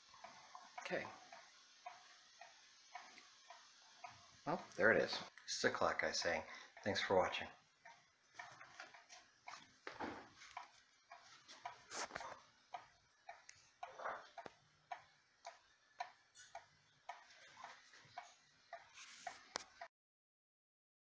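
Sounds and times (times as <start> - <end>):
wall clock ticking: 0.0 - 19.9.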